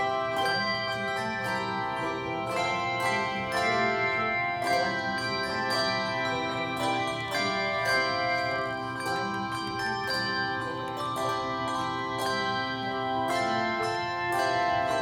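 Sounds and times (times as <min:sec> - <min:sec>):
handbell choir melody: 0:00.0 - 0:15.0.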